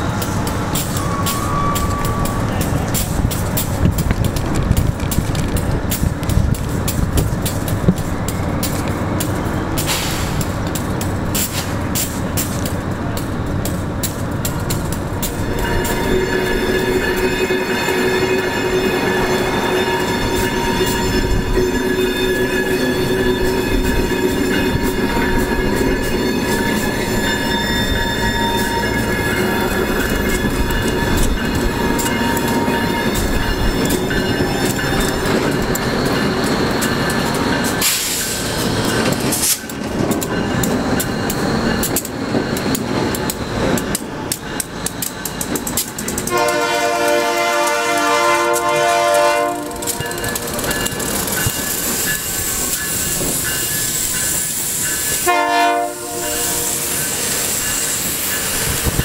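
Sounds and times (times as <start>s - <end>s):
steel wheels squealing: 0.0s - 47.4s, 49.4s - 59.0s
diesel locomotive running: 0.0s - 59.0s
wheels clanking over rail joints: 0.0s - 59.0s.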